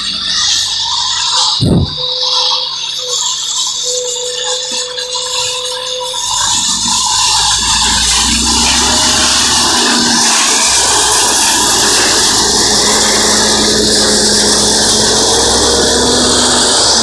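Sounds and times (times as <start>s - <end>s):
concrete mixer engine and hydraulics: 0.0s - 17.0s.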